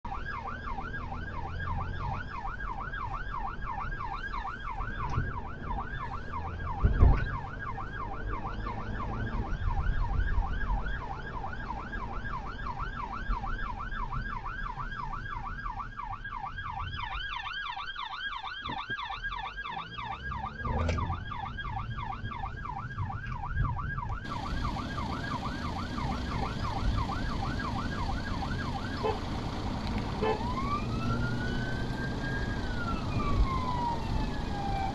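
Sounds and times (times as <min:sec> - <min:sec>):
engine and road noise: 0:00.0 - 0:34.9
siren yelping and wailing: 0:00.1 - 0:34.9.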